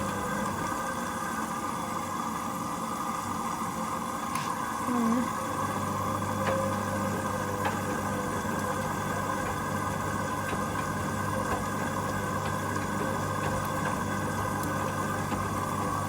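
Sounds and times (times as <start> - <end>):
washing machine hum: 0.0 - 16.0.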